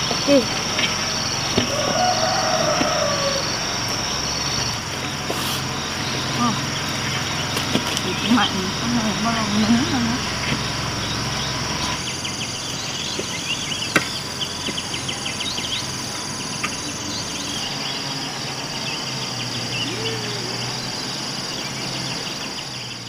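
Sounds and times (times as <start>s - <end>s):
bird chirps: 0.0s - 23.0s
high-pitched insect drone: 0.0s - 23.0s.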